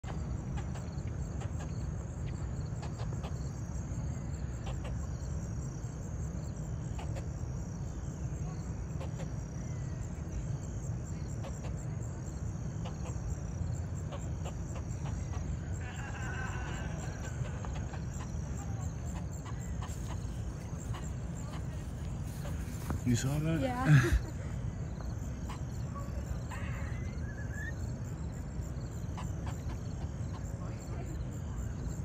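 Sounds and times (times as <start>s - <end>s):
insects trilling: 0.0s - 32.0s
steady low rumble: 0.0s - 32.0s.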